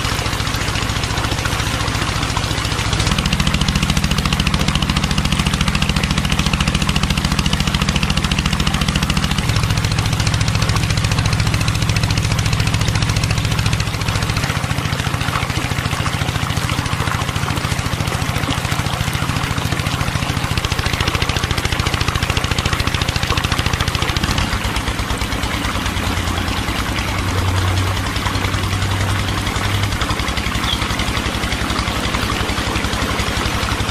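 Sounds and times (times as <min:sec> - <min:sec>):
small motor chattering: 0:00.0 - 0:33.9.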